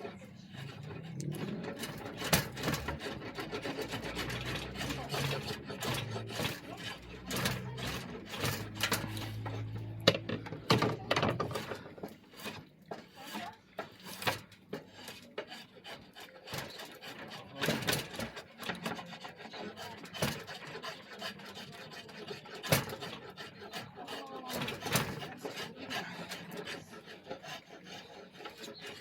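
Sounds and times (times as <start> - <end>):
hand tool scraping wood: 0.0 - 29.0.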